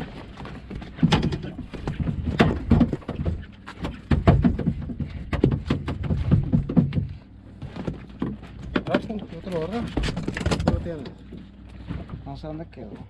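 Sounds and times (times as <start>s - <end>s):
fish thrashing against boat: 0.0s - 12.4s.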